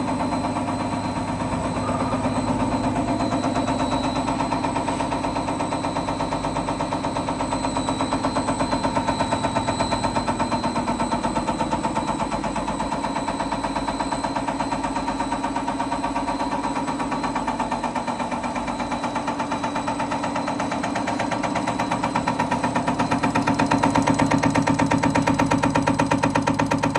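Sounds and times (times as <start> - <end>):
high machine whine: 0.0 - 26.9
injector test machine clattering: 0.0 - 26.9.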